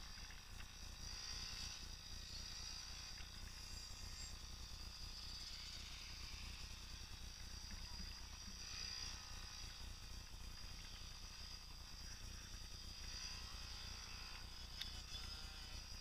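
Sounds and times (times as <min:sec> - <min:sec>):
low hum: 0:00.0 - 0:16.0
small two-stroke engine buzzing: 0:00.0 - 0:16.0.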